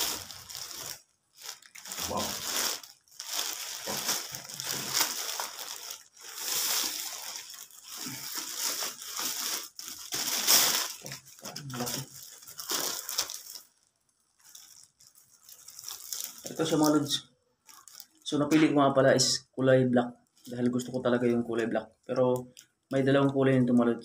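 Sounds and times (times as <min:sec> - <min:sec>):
plastic and paper crinkling: 0:00.0 - 0:18.5, 0:20.3 - 0:23.9.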